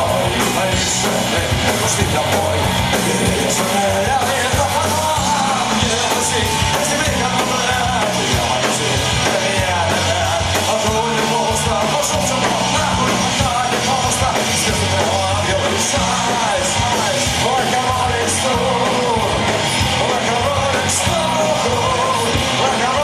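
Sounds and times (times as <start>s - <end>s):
punk rock band playing: 0.0s - 23.0s.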